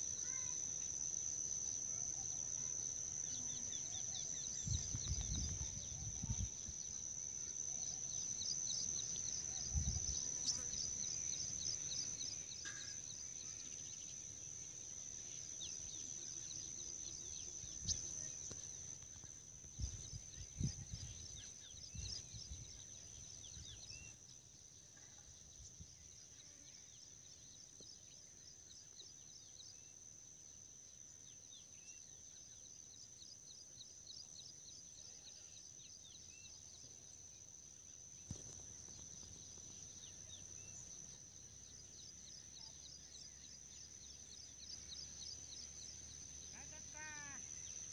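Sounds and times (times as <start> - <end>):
faint bird chirps: 0.0 - 30.1, 30.8 - 47.9
insects buzzing and trilling: 0.0 - 47.9.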